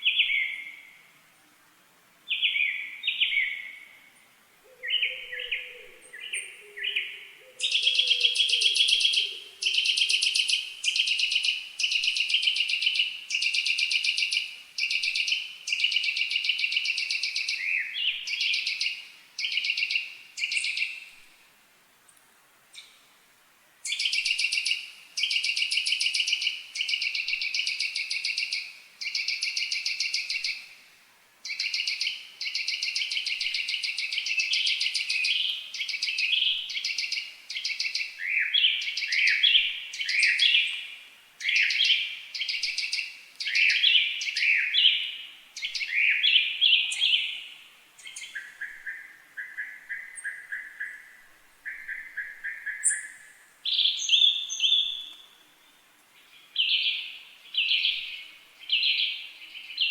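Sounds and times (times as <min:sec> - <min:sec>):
bird singing trills and chirps: 0:04.7 - 0:21.1, 0:23.9 - 0:30.6, 0:31.4 - 0:59.9.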